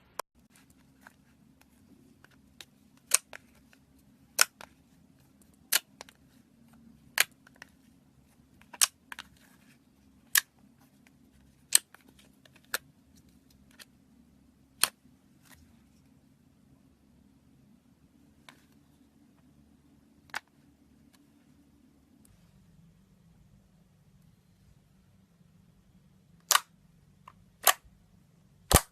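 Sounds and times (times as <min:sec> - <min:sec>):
faint low hum: 0:00.0 - 0:28.9.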